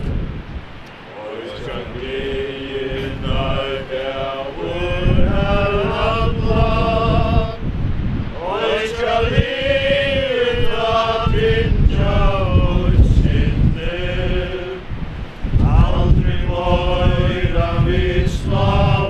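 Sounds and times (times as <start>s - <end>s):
wind rumble on microphone: 0.0s - 19.0s
group singing a hymn: 0.9s - 19.0s.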